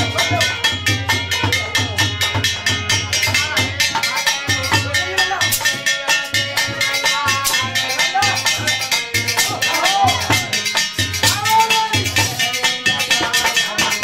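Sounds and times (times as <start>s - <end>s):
drum beat: 0.0s - 14.0s
jingling small percussion: 0.0s - 14.0s
man singing: 0.0s - 14.0s.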